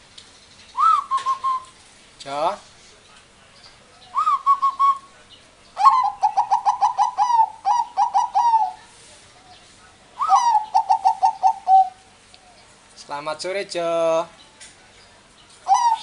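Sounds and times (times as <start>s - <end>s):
cage bird calling: 0.4s - 1.8s, 3.5s - 13.2s, 14.1s - 16.0s.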